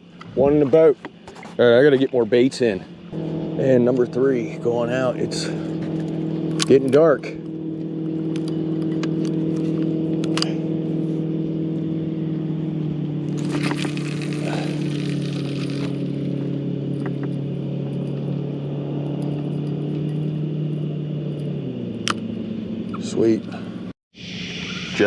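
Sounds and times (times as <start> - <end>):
motor hum: 0.0 - 23.9.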